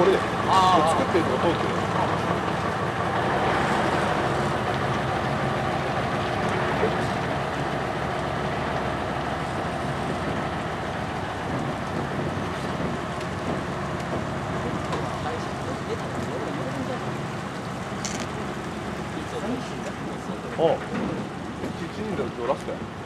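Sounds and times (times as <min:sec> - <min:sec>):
tyre and road noise: 0:00.0 - 0:23.0
vehicle engine hum: 0:00.0 - 0:23.0.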